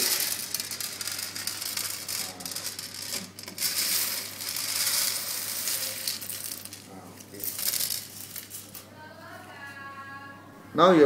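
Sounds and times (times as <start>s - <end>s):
coffee beans pouring onto tray: 0.0s - 8.9s.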